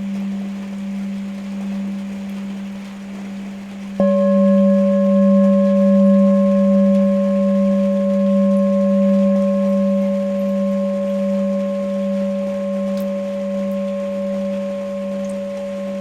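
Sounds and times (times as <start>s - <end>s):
singing bowl ringing: 0.0s - 16.0s.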